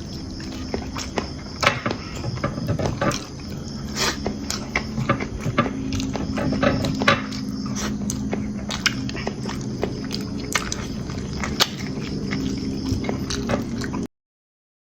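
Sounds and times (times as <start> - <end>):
person chewing: 0.0 - 14.1
steady low hum: 0.0 - 14.1.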